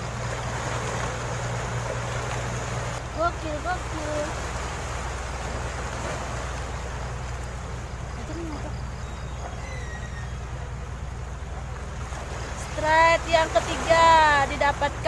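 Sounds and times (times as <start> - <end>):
low steady rumble: 0.0 - 15.0
sea water washing: 0.0 - 15.0.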